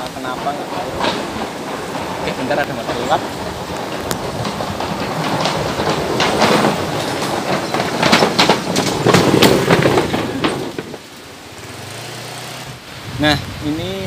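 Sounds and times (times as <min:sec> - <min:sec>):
bridge deck rattling: 0:00.0 - 0:13.0
motorbike passing: 0:00.0 - 0:14.0.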